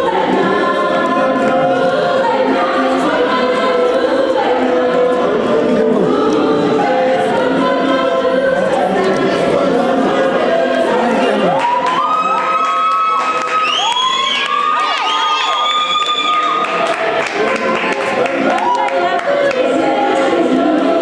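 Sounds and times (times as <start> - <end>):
group singing in harmony: 0.0 - 21.0.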